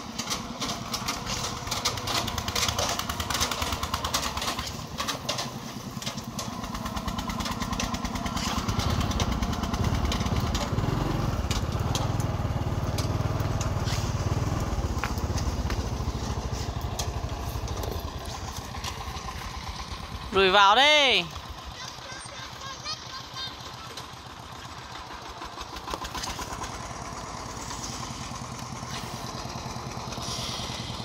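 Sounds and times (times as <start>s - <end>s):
diesel engine pulsing: 0.0s - 31.0s.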